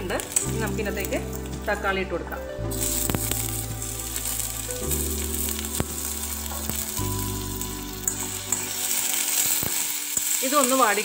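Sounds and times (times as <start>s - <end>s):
onions and tomatoes sizzling in oil: 0.0s - 11.0s.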